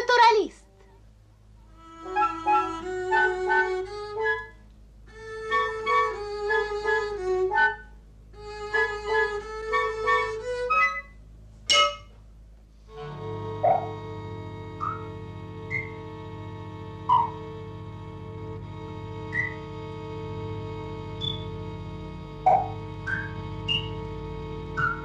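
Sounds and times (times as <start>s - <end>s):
bouncy cartoon string music: 1.8s - 12.2s, 12.9s - 25.0s.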